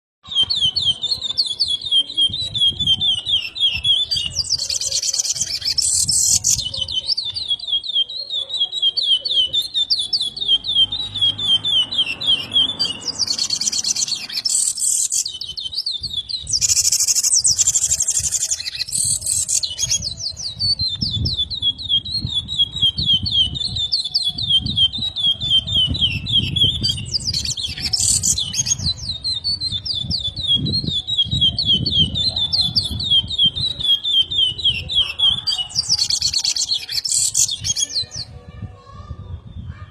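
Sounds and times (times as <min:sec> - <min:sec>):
finch singing: 0:00.2 - 0:38.4.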